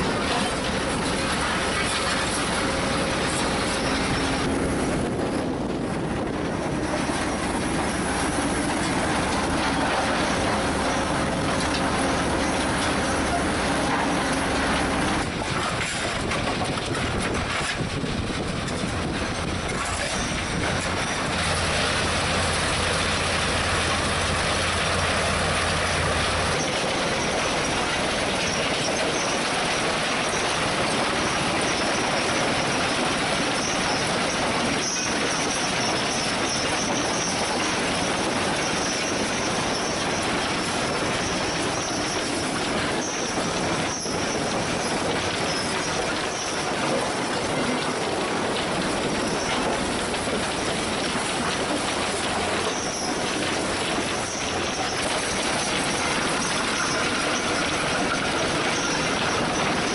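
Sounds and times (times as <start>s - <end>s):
mobile crusher running: 0.0s - 59.9s.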